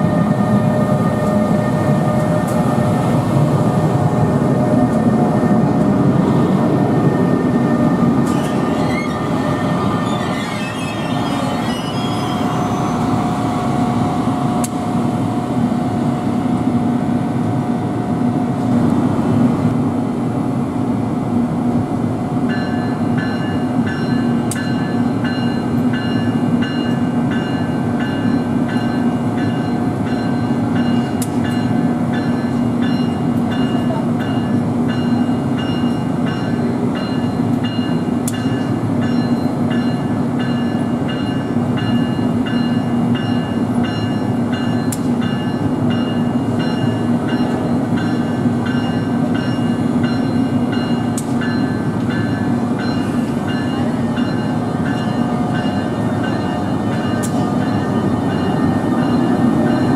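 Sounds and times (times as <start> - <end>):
electric train humming and rumbling: 0.0 - 59.9.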